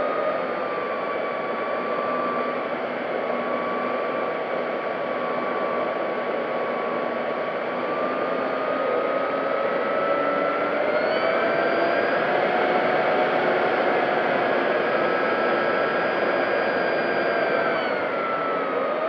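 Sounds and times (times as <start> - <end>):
electric motor and propeller whining: 0.0 - 19.0.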